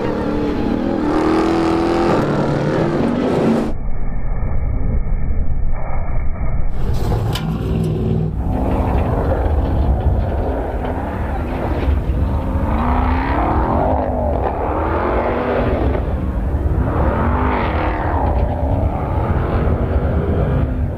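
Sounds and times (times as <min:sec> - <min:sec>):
engine revving: 0:00.0 - 0:03.8, 0:07.3 - 0:20.9.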